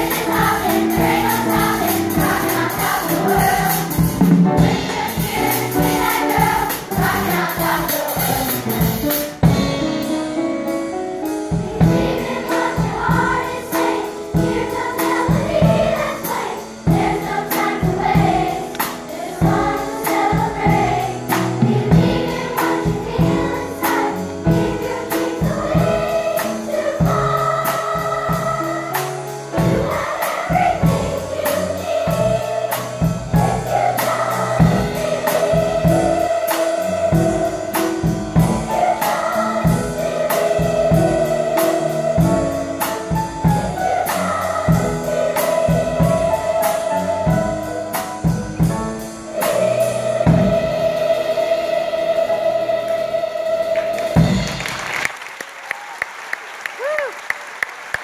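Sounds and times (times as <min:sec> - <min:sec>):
drum kit beat: 0:00.0 - 0:51.8, 0:53.9 - 0:55.1
children's choir singing: 0:00.0 - 0:55.1.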